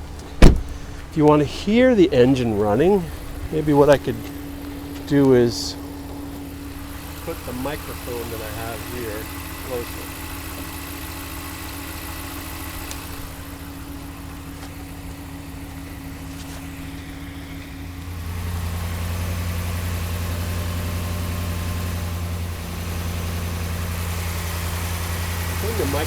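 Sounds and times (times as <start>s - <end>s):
pickup engine idling: 0.0s - 26.0s.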